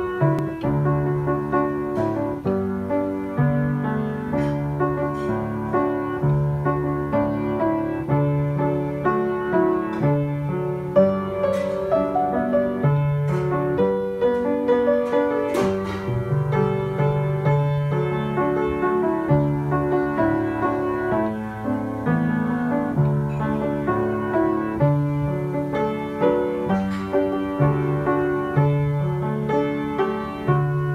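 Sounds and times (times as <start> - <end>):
solo piano hymn tune: 0.0 - 30.9.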